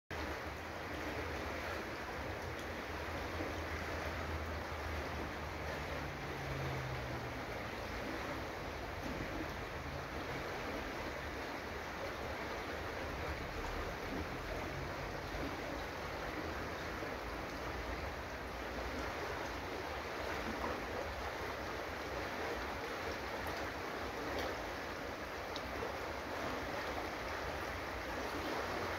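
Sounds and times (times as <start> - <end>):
river rushing over gravel: 0.1 - 28.9.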